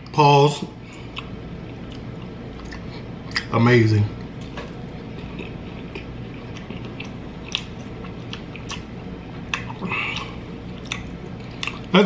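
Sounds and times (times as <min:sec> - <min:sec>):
person chewing with wet smacks: 0:01.0 - 0:03.5, 0:04.2 - 0:12.0.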